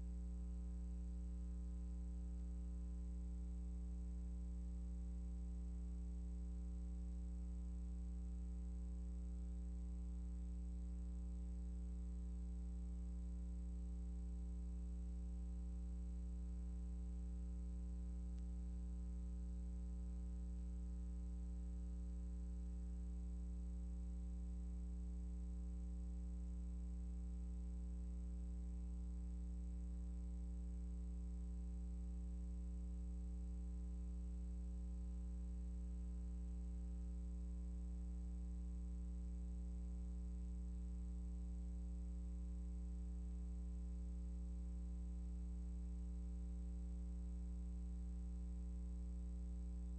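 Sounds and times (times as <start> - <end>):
faint high whine: 0.0 - 49.9
low electrical hum: 0.0 - 49.9.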